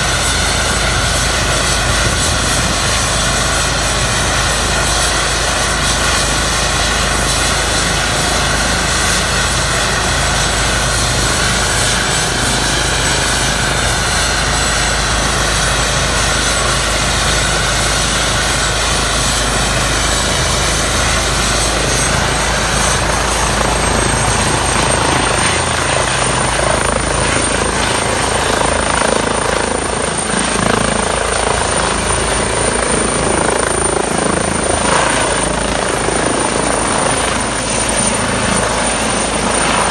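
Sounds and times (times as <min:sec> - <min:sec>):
helicopter rotor and engine: 0:00.0 - 0:39.9
high turbine whine: 0:00.0 - 0:39.9.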